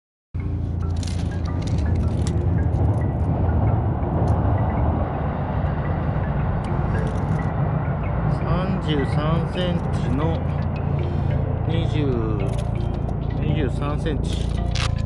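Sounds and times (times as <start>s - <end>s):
deep rumble: 0.4s - 15.0s.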